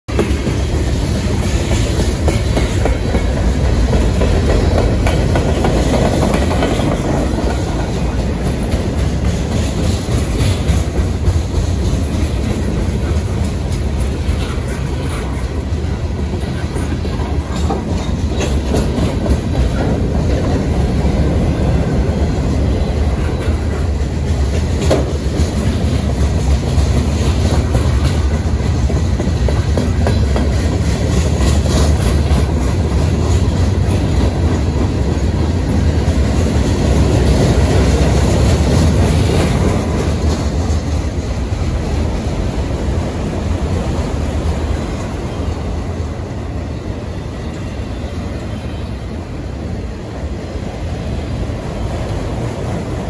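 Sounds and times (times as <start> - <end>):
wheels clacking over rail joints: 0.1 - 46.8
freight train rumble: 0.1 - 53.0.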